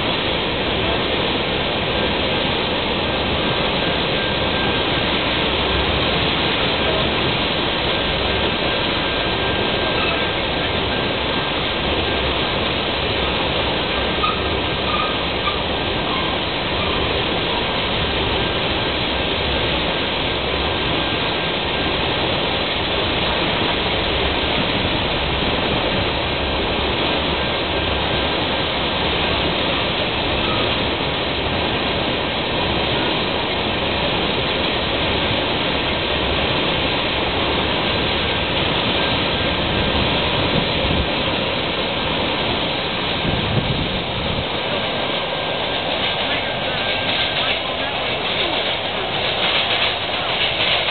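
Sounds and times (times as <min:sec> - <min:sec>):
train wheels rolling on rails: 0:00.0 - 0:50.9.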